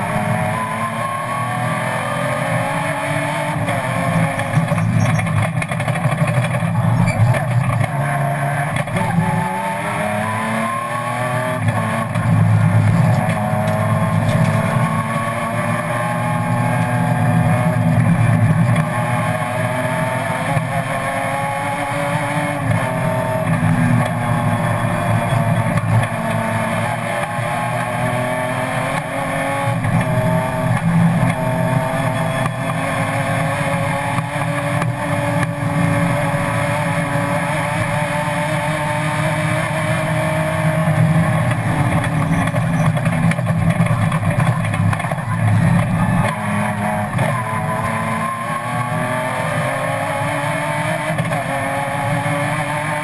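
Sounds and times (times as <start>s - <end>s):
race car engine accelerating: 0.0s - 53.0s.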